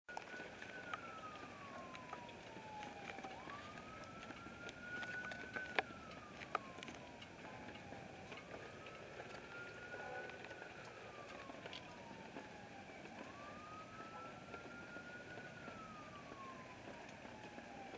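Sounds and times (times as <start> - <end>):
siren wailing: 0.1 - 17.9.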